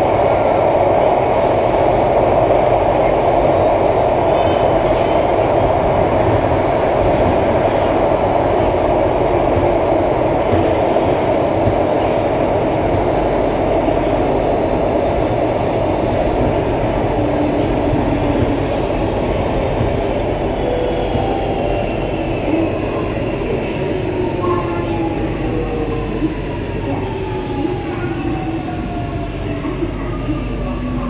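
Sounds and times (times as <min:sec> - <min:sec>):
train rail running noise: 0:00.0 - 0:31.0.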